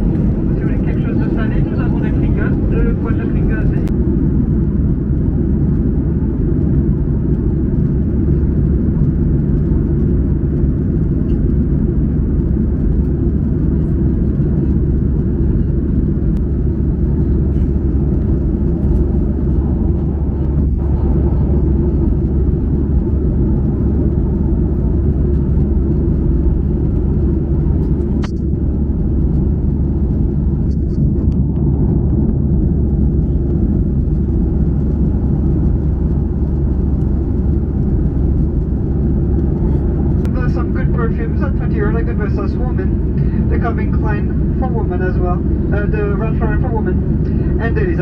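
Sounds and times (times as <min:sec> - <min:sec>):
airplane cabin drone: 0:00.0 - 0:48.0.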